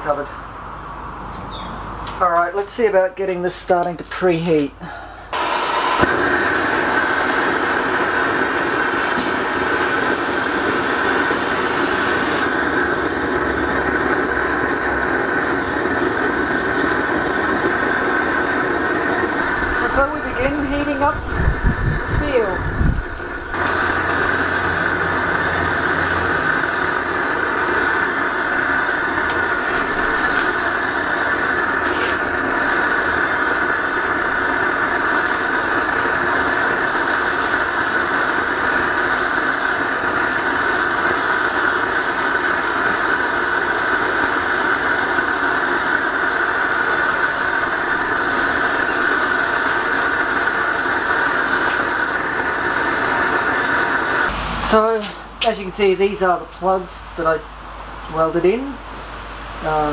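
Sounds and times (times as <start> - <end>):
blowtorch hissing: 4.4 - 59.9.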